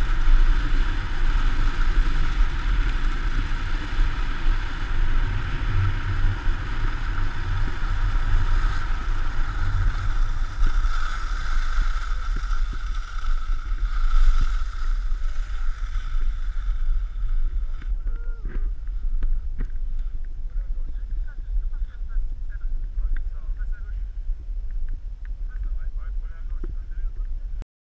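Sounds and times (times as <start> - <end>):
skis scraping over snow: 0.0 - 23.9.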